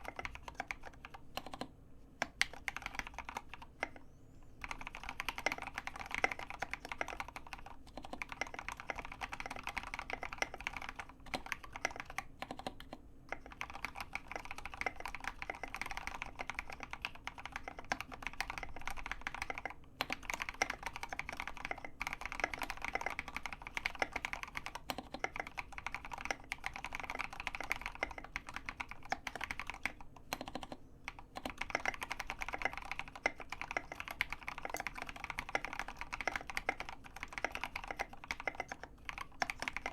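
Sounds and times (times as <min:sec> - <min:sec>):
fast typing on mechanical keyboard: 0:00.0 - 0:04.0, 0:04.6 - 0:39.9.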